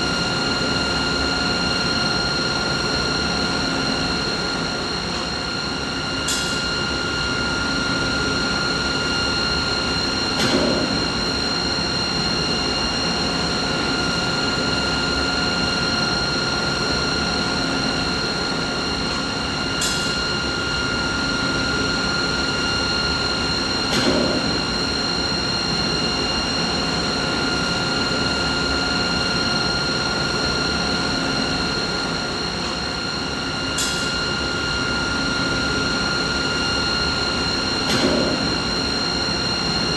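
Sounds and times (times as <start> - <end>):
machine hum with high whine: 0.0 - 39.9.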